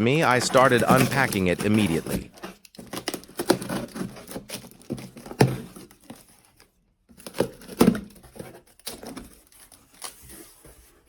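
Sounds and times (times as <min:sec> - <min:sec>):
cardboard packaging rustling and tearing: 0:00.0 - 0:11.0.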